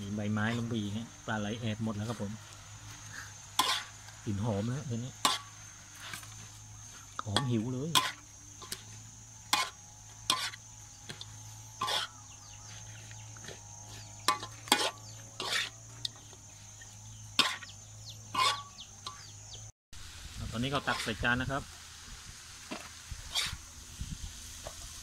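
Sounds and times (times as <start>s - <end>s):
metal spatula scraping a wok: 1.8s - 19.4s, 20.7s - 25.0s.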